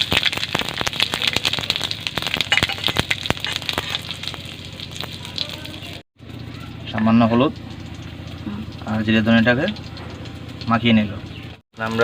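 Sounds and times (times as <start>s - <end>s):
seeds crackling and popping in hot oil: 0.0s - 12.0s.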